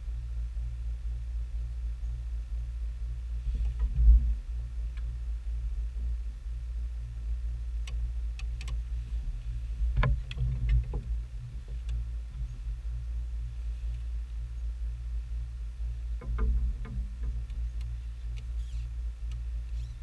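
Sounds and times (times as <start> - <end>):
electric trolling motor humming: 0.0 - 20.0.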